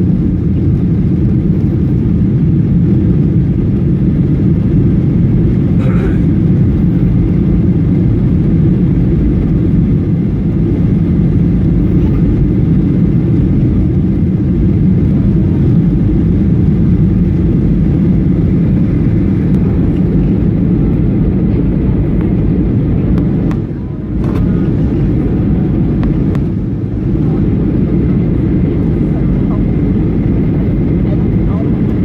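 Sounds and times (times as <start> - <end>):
airplane cabin engine roar: 0.0 - 32.0.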